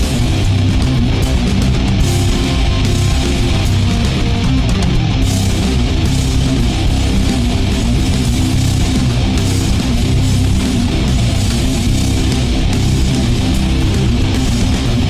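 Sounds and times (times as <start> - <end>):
rock song with electric guitar: 0.0 - 15.0.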